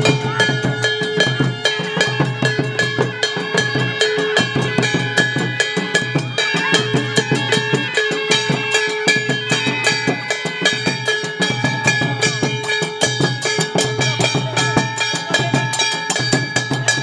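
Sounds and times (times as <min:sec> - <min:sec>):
frame drums beaten with sticks: 0:00.0 - 0:17.0
held pitched tones: 0:00.0 - 0:17.0.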